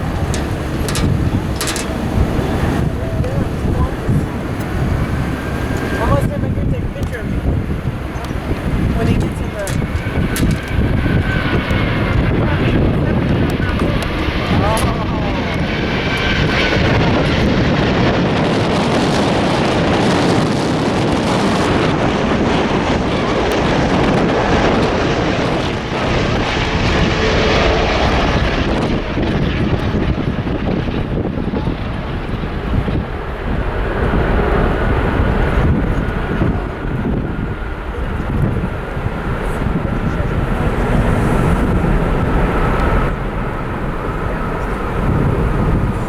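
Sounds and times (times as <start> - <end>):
jet airliner engines roaring: 0.0 - 46.0
wind buffeting microphone: 0.0 - 46.0.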